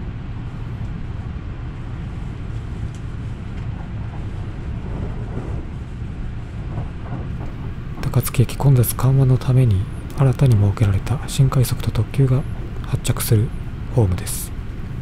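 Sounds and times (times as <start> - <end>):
low rumble of train wheels: 0.0 - 15.0.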